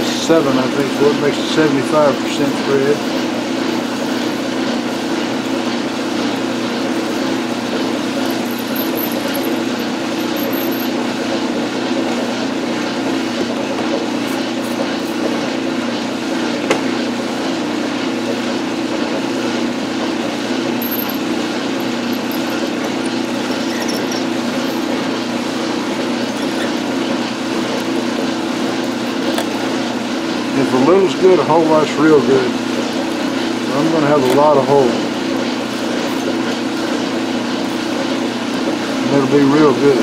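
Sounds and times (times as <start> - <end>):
metal lathe drilling steel: 0.0 - 40.0.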